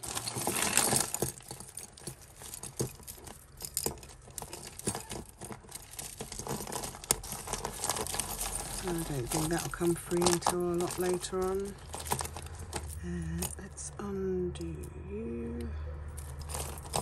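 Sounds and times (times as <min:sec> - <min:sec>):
jewellery clicking and rattling: 0:00.0 - 0:14.0, 0:14.6 - 0:17.0.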